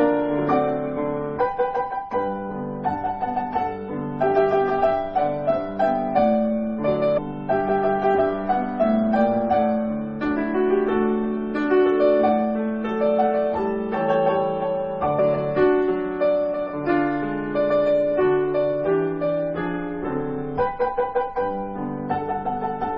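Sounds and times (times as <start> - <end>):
solo piano music: 0.0 - 22.9.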